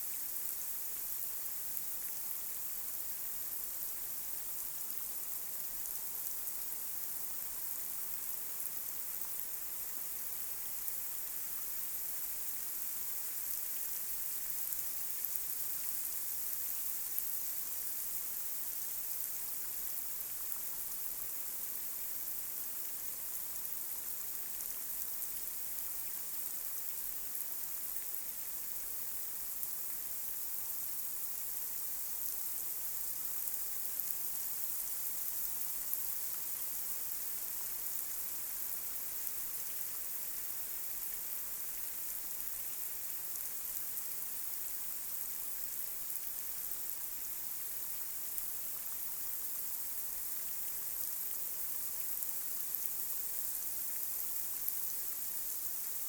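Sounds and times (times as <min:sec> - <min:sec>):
light rain falling on a street: 0:00.1 - 0:56.0.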